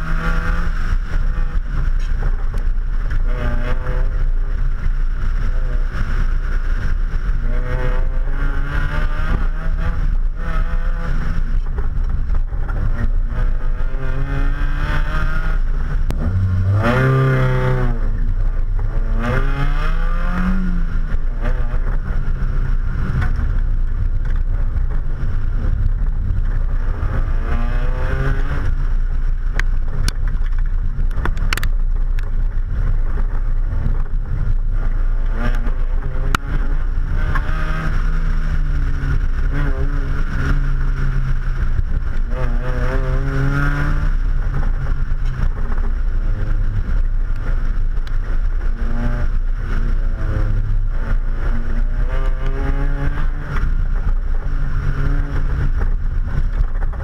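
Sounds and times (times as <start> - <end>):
car engine revving: 0.0 - 57.0
wind and road noise: 0.0 - 57.0.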